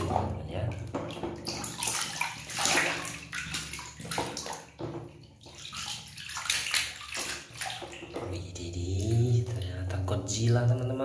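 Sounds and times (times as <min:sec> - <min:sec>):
water sloshing in a washtub: 0:00.0 - 0:11.0.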